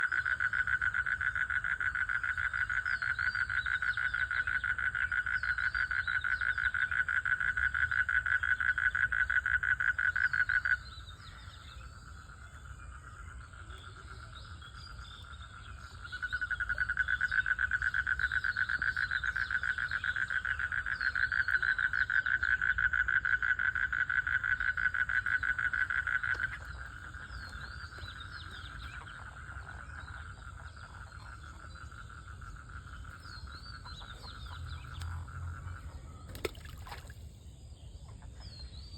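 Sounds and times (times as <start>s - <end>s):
faint high frog chirping: 0.0s - 37.2s
frogs pulsed trill: 0.0s - 37.2s.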